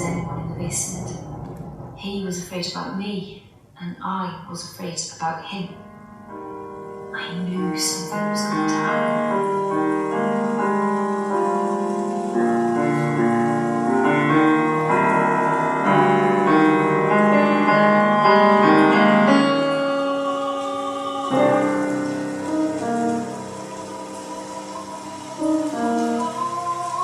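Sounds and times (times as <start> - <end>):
piano sustained chords: 0.0 - 3.8, 4.4 - 27.0.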